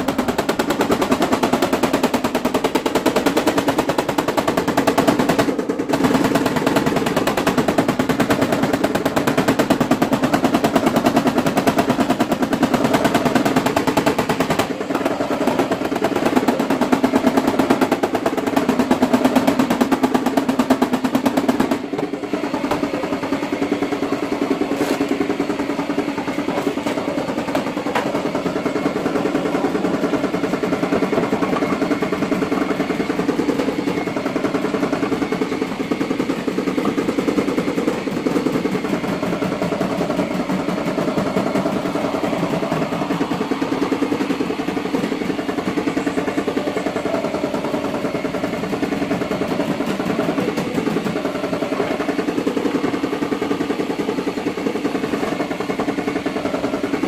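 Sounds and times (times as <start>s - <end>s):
pulsing mechanical hum: 0.0s - 57.0s
rapid tapping on sheet metal: 0.0s - 57.0s.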